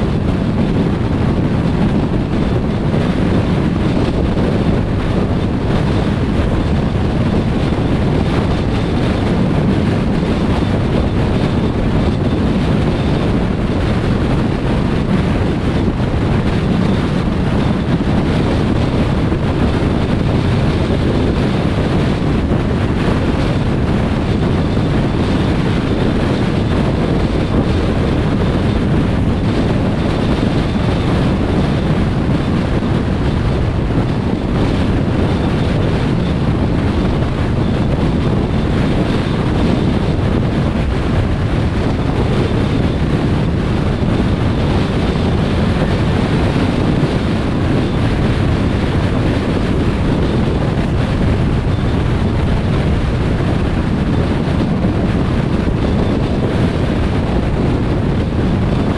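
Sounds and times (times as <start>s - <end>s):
car road and wind noise: 0.0s - 58.9s.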